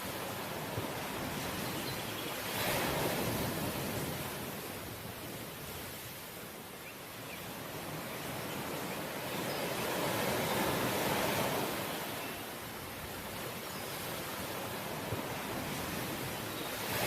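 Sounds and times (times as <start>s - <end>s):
ocean waves washing onto shore: 0.0s - 17.0s.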